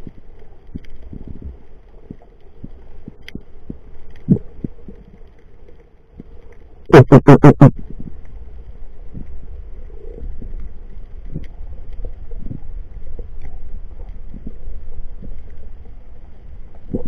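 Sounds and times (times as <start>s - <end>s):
low underwater rumble: 0.0s - 17.0s.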